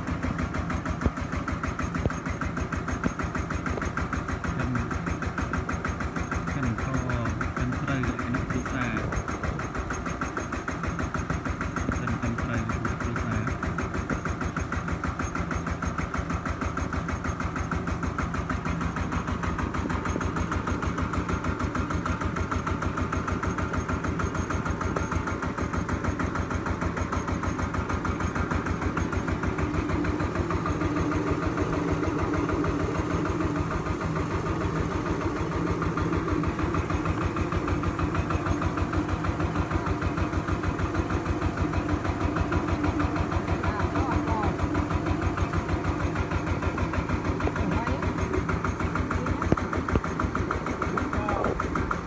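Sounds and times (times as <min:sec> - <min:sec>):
diesel engine chugging: 0:00.0 - 0:52.0
rice huller milling: 0:00.0 - 0:52.0.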